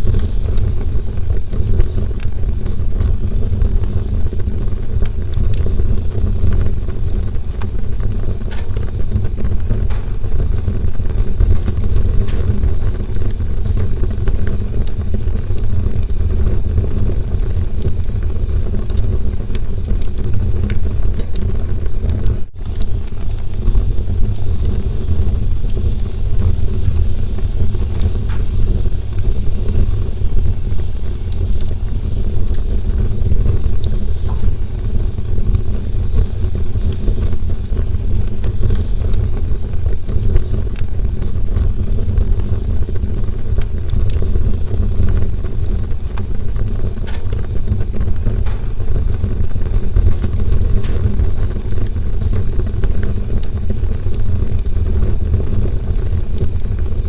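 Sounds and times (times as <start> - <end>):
fire crackles and pops: 0.0 - 57.0
low rumble of flames: 0.0 - 57.0.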